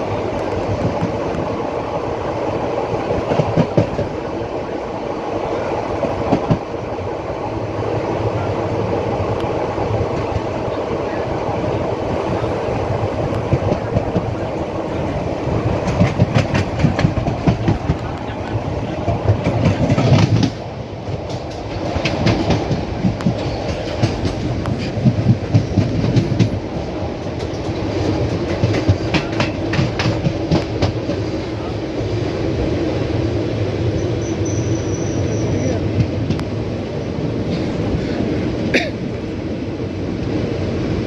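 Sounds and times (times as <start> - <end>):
clickety-clack over rail joints: 0.0 - 4.3, 5.6 - 7.0, 8.2 - 11.3, 12.1 - 31.8, 34.0 - 39.3
train wheels rumbling on rails: 0.0 - 41.0.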